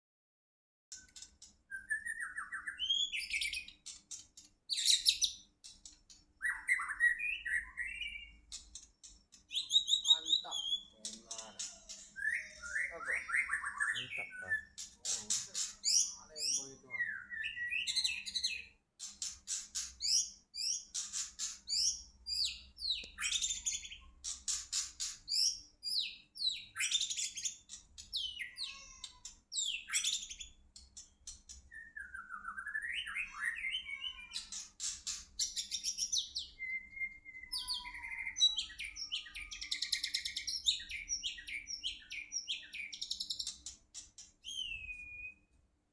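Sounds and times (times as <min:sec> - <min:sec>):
songbird singing whistles and trills: 0:00.9 - 0:03.9, 0:04.7 - 0:05.5, 0:06.4 - 0:08.6, 0:09.4 - 0:14.8, 0:15.8 - 0:18.8, 0:20.0 - 0:24.2, 0:25.0 - 0:28.9, 0:29.5 - 0:30.6, 0:31.2 - 0:43.7, 0:44.4 - 0:45.6.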